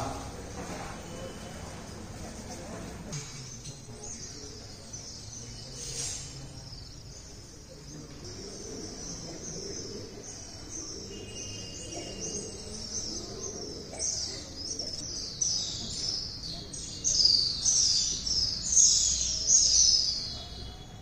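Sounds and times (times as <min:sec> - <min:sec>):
murmur of voices: 0:00.0 - 0:21.0
small birds chirping: 0:00.0 - 0:21.0.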